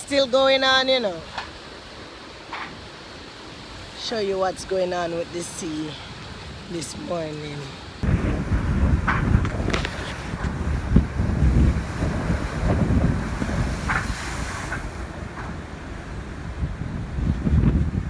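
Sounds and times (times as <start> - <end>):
rough surf: 0.0 - 18.0
wind gusting across microphone: 0.0 - 18.0.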